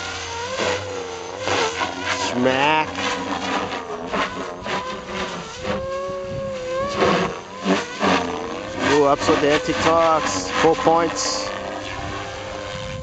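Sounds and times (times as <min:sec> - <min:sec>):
rc helicopter rotor whine: 0:00.0 - 0:13.0.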